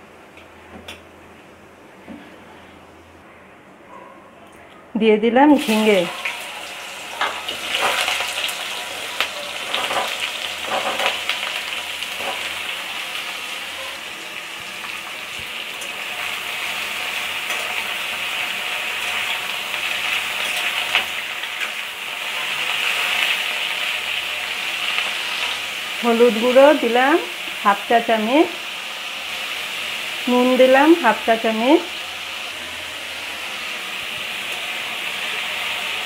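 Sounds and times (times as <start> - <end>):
vegetables sizzling in hot oil: 5.5 - 36.0.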